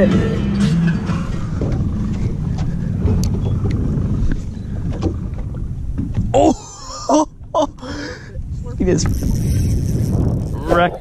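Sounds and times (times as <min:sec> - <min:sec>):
boat engine rumble: 0:00.0 - 0:11.0
water noise: 0:00.0 - 0:11.0
wind: 0:00.0 - 0:11.0.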